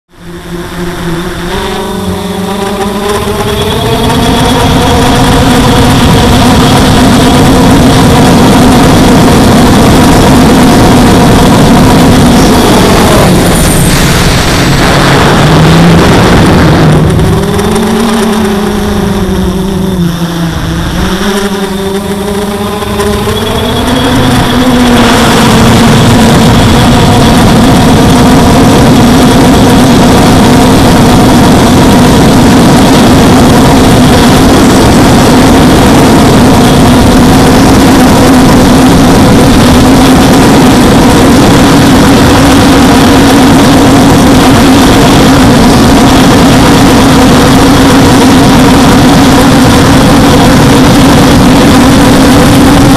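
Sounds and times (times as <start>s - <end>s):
drone motors whining: 0.1s - 52.9s
rush of air: 3.5s - 52.9s.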